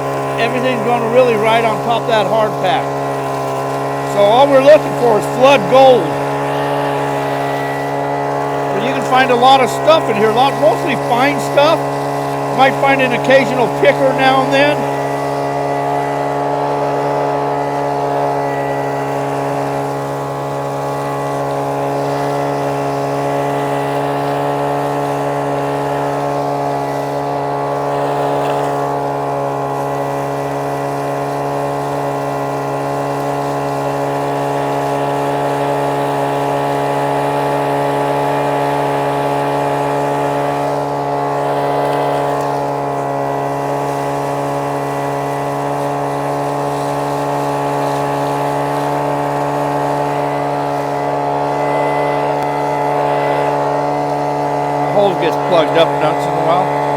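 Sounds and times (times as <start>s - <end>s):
small gas engine running: 0.0s - 56.9s.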